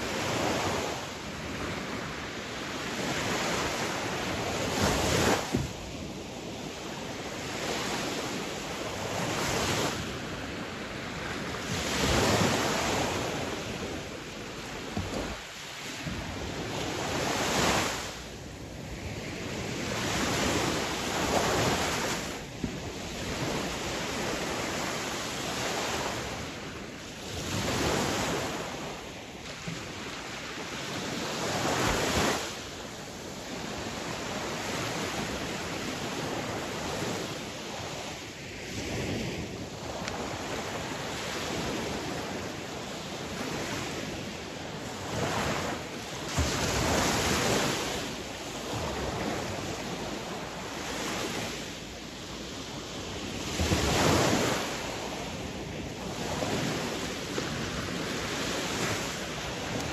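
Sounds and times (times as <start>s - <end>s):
sea waves breaking ashore: 0.0s - 59.9s.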